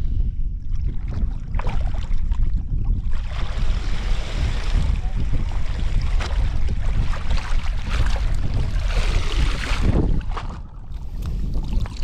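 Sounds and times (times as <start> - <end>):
wind buffeting microphone: 0.0 - 12.0
water pouring and splashing: 1.0 - 12.0.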